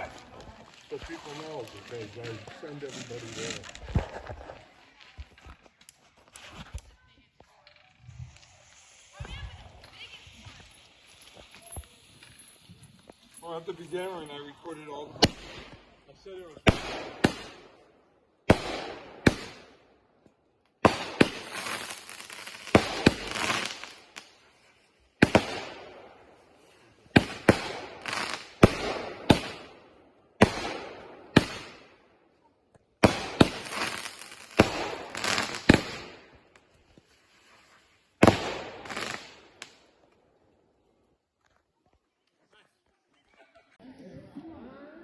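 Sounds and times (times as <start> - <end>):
fireworks banging and crackling: 0.0 - 19.8, 20.8 - 32.0, 33.0 - 40.3.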